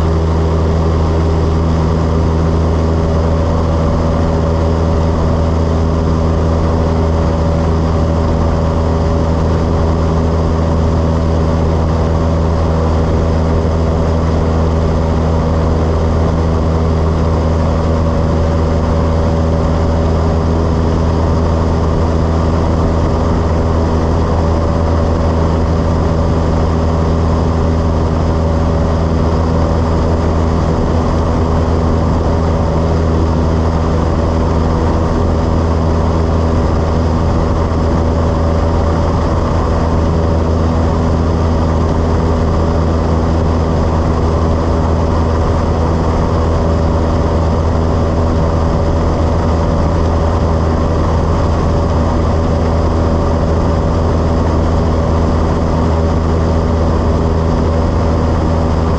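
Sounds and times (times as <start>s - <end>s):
propeller plane engine drone: 0.0s - 58.9s.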